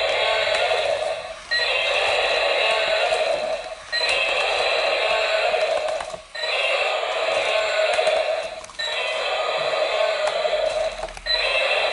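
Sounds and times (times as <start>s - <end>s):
toy dinosaur roar: 0.0s - 11.9s.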